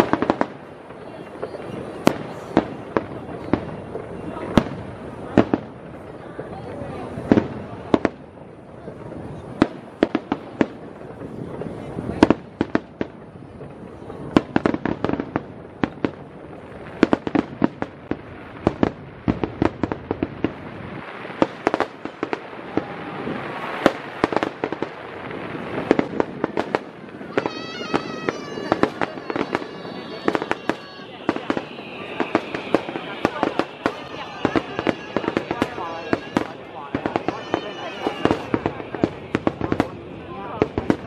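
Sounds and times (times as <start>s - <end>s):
crackling hiss of fireworks: 0.0s - 41.0s
fireworks cracks and pops: 0.0s - 41.0s.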